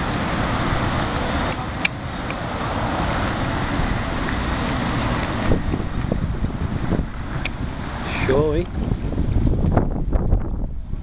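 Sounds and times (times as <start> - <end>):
road traffic: 0.0 - 11.0
wind: 0.0 - 11.0.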